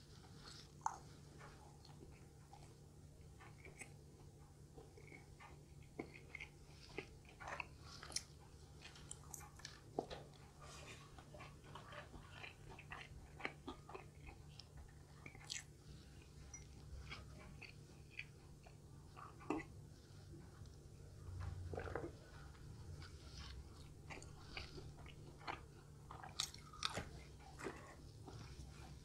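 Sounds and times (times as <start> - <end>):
chewing crispy food: 0.0 - 29.0.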